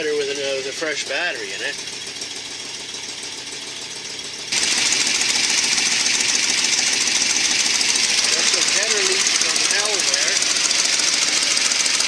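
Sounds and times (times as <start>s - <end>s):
engine running: 0.0s - 12.0s
exhaust ticking: 0.0s - 12.0s.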